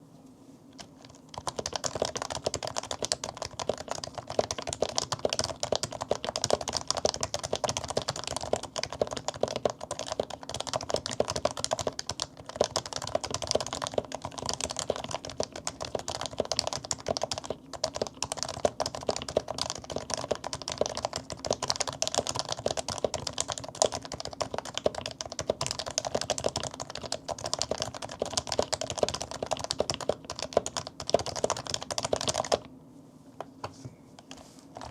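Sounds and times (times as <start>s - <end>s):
fast keyboard typing: 0.8s - 32.7s.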